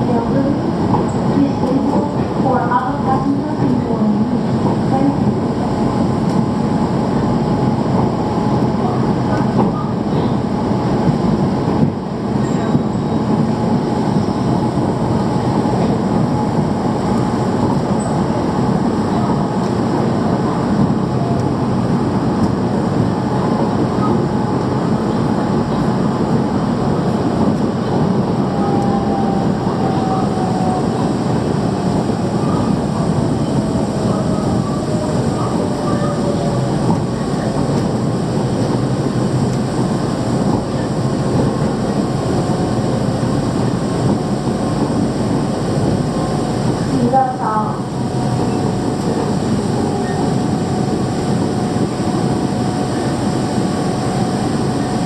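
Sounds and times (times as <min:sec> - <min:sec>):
monorail train running rumble: 0:00.0 - 0:55.0.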